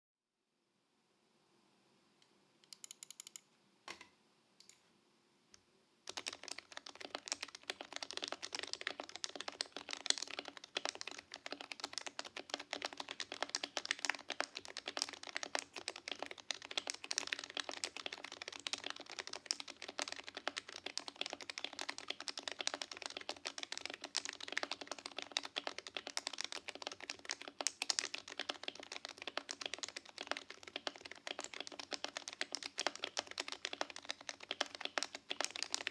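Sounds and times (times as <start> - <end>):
keyboard typing: 2.6 - 3.4, 6.0 - 35.9.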